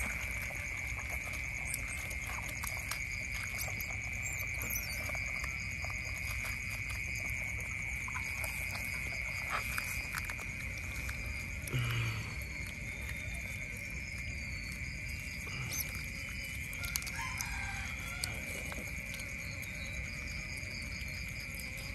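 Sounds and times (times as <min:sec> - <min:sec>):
otters chewing and crunching fish: 0:00.0 - 0:21.9.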